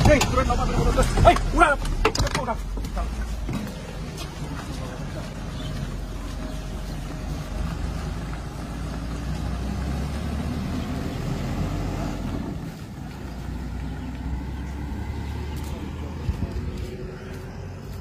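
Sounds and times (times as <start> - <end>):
truck engine driving away: 0.0 - 18.0.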